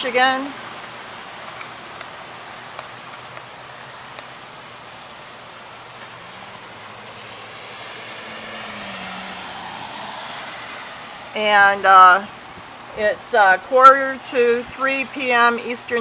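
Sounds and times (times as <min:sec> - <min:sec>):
vehicle engine hum: 0:00.0 - 0:14.0
rain and wind: 0:00.0 - 0:16.0.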